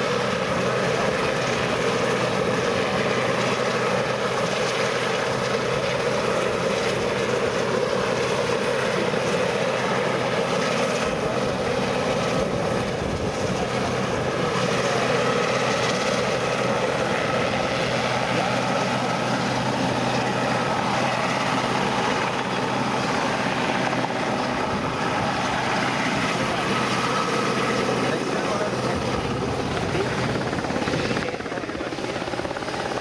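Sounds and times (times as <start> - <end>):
helicopter hovering: 0.0 - 33.0.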